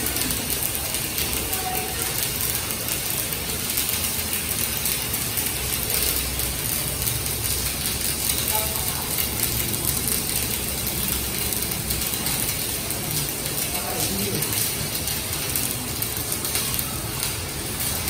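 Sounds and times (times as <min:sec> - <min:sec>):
welding arc crackling and sizzling: 0:00.0 - 0:18.0.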